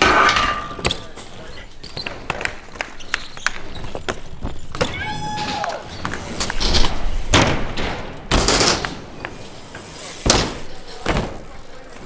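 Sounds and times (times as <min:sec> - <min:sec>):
bike knocks and clicks: 0:00.0 - 0:12.0
tyres rolling through ramp: 0:00.0 - 0:12.0.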